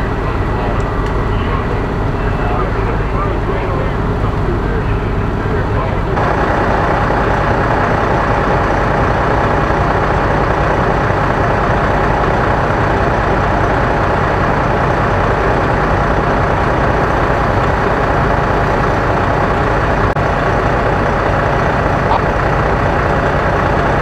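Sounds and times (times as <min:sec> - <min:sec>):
diesel engine idling high: 0:00.0 - 0:24.0.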